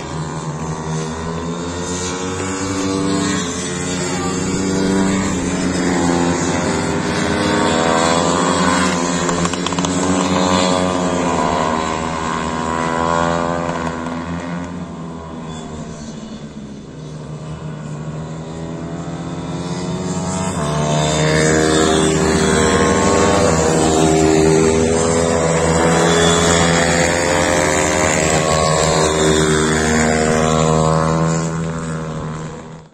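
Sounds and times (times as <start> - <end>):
small motors humming: 0.0 - 12.8, 13.8 - 32.9.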